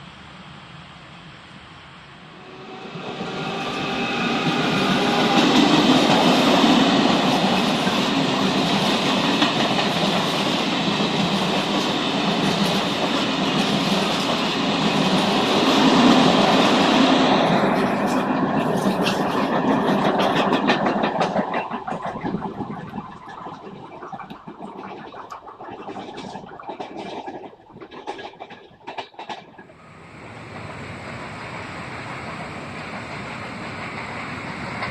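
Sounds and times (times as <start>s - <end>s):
train running past on track: 0.0s - 34.9s.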